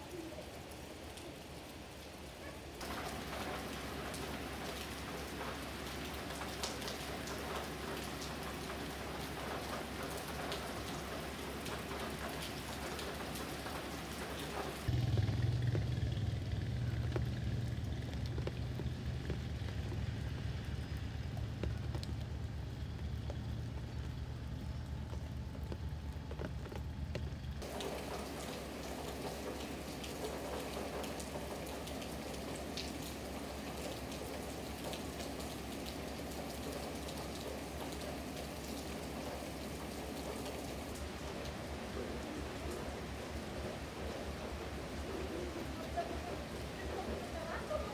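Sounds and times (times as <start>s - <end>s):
rain falling: 0.0s - 47.9s
raindrops ticking: 0.0s - 47.9s.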